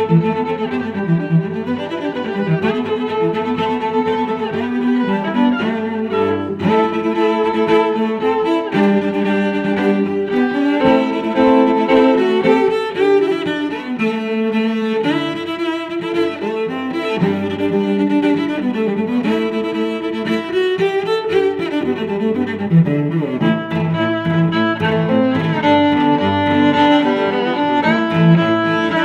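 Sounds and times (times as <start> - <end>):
bowed strings music: 0.0 - 29.0.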